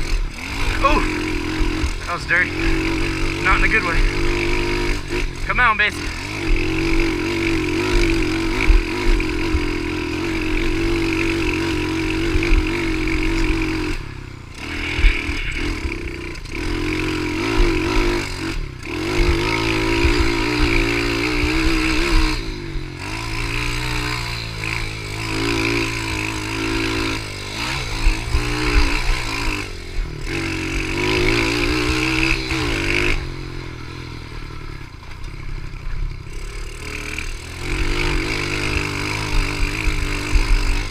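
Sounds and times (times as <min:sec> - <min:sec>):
pitbike engine revving: 0:00.0 - 0:40.9.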